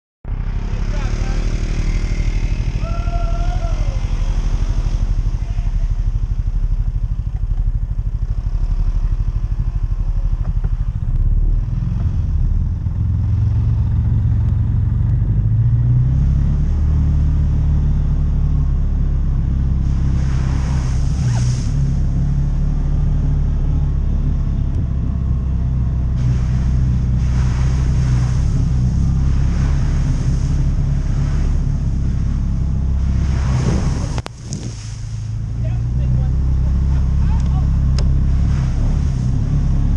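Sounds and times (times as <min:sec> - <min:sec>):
off-road vehicle engine running: 0:00.2 - 0:39.9
mud and water splashing: 0:00.6 - 0:39.9.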